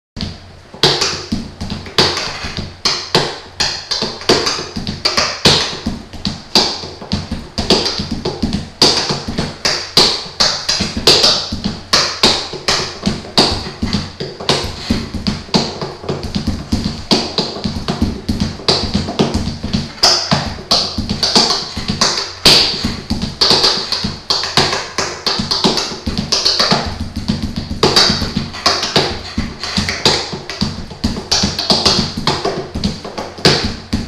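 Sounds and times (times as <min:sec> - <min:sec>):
fingers drumming on armrests: 0:00.2 - 0:34.0.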